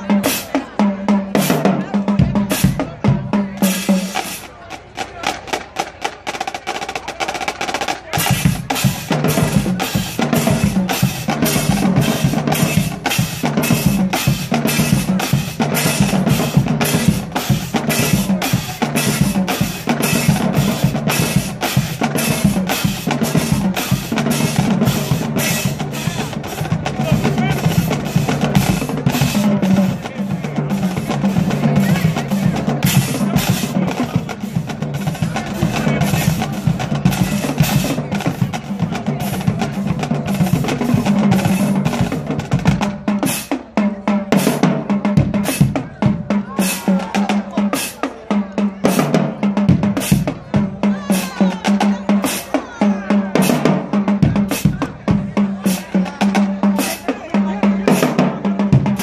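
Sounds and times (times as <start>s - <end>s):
marching drumline: 0.0s - 59.0s.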